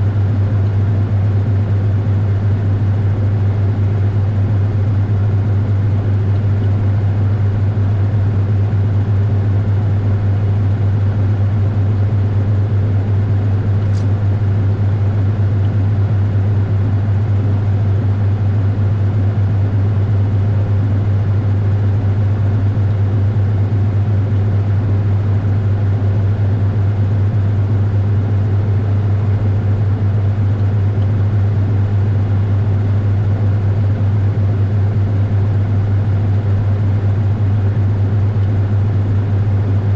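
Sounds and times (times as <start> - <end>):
washing machine drone: 0.0 - 39.9.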